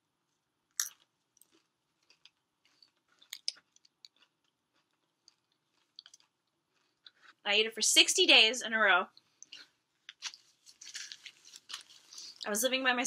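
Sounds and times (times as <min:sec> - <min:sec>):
person chewing food: 0:00.2 - 0:07.4, 0:09.1 - 0:12.4.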